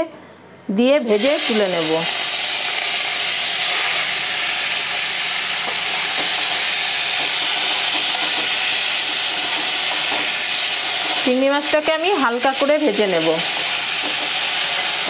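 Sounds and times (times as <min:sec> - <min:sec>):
prawns sizzling in hot oil: 0:01.0 - 0:15.0.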